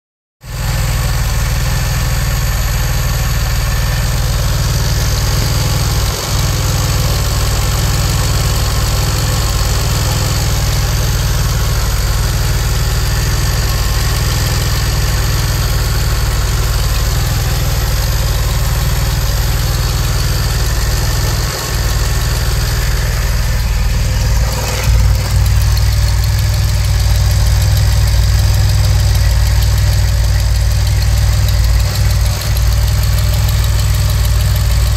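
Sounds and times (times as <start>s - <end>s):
car engine idling: 0.4s - 34.9s
exhaust blowing: 0.5s - 34.9s.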